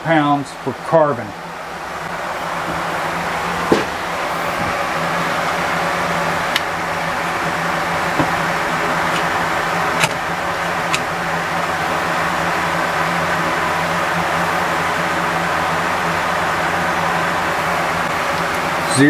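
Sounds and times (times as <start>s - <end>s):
mechanical background hum: 0.0s - 19.0s.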